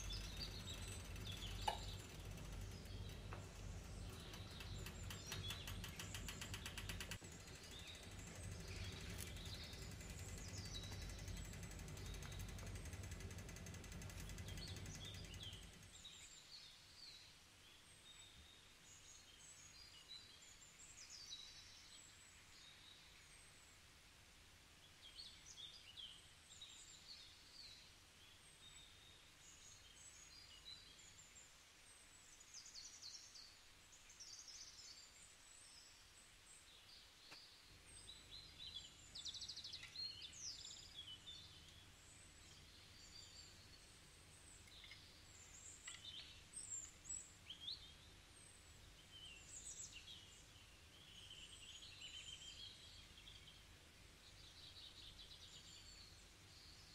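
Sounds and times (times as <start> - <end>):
small birds chirping and trilling: 0.0 - 23.7, 24.8 - 56.9
faint low hum: 0.0 - 56.9.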